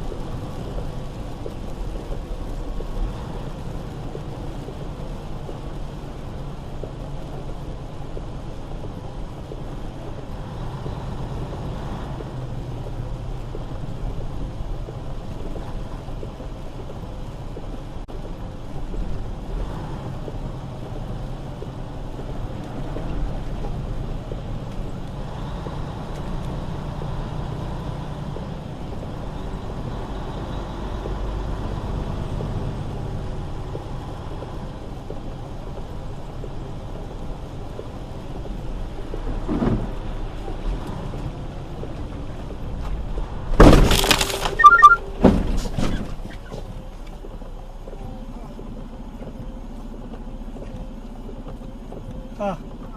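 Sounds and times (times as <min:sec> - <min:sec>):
truck engine and road rumble: 0:00.0 - 0:52.9.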